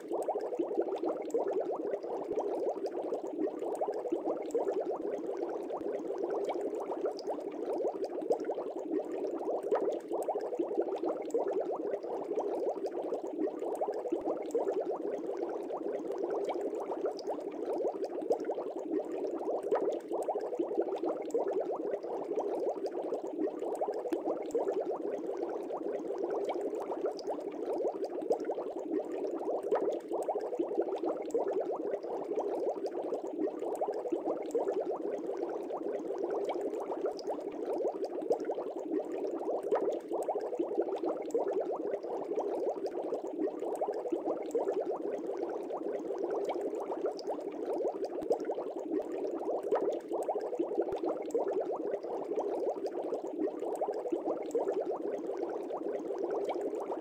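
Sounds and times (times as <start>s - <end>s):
bubbling water fizz: 0.0s - 57.0s.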